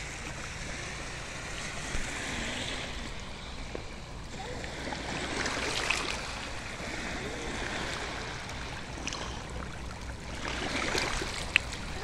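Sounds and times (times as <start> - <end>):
seawater rushing over rocks: 0.0 - 12.0
small water splashes: 0.0 - 12.0.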